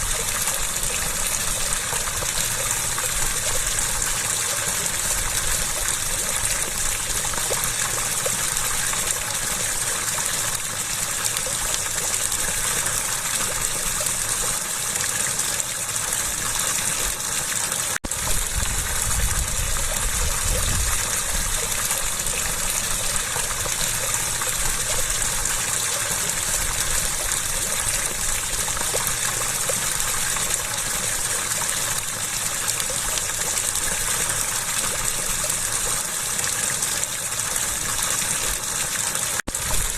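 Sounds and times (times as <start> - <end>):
water gushing and splashing: 0.0 - 39.9.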